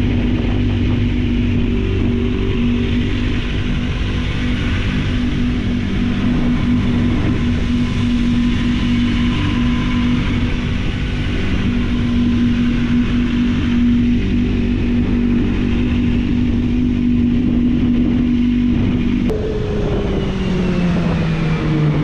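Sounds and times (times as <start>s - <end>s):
motorcycle engine running steadily: 0.0s - 22.0s.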